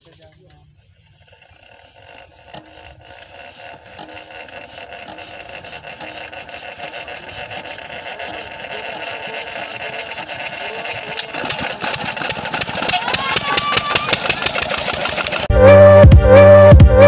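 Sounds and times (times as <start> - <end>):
diesel pump engine knocking: 1.3 - 15.5.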